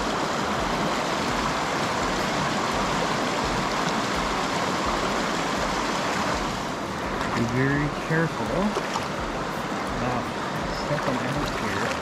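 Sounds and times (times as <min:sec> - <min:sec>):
rain falling: 0:00.0 - 0:12.0
river water flowing: 0:00.0 - 0:12.0.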